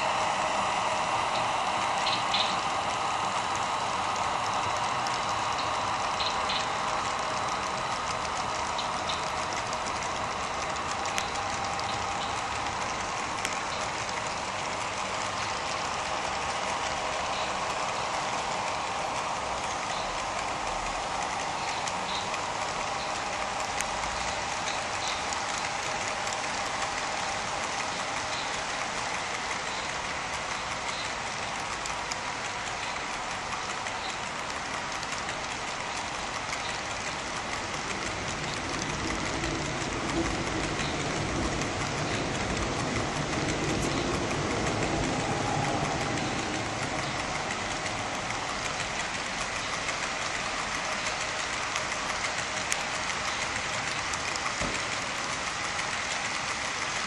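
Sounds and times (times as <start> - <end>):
model train wheels whirring: 0.0 - 57.0
faint clicks: 1.3 - 57.0.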